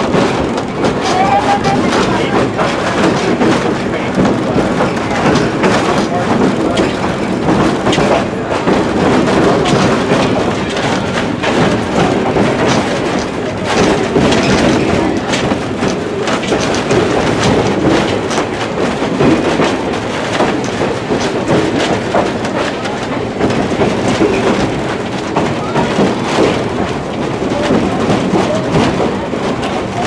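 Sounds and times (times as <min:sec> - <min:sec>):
train rumbling on rails: 0:00.0 - 0:30.0
wheel clicks and rattles: 0:00.0 - 0:30.0.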